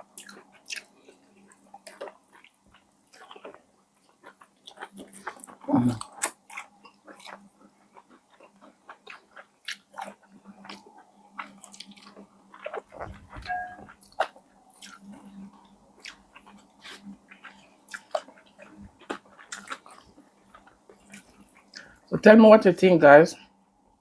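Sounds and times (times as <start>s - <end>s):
chewing: 0.0s - 22.1s.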